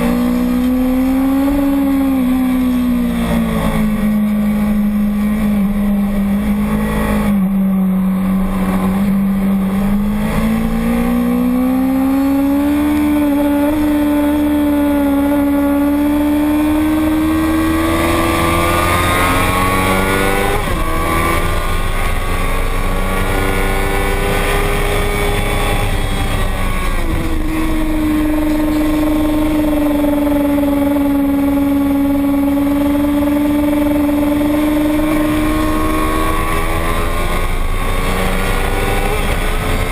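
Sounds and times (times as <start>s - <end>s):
racing motorcycle engine at high revs: 0.0s - 39.9s.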